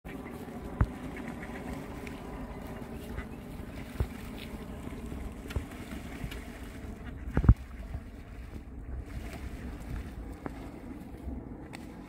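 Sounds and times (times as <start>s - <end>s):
ducks splashing in water: 0.1s - 12.0s
wind rumbling on microphone: 0.1s - 12.0s.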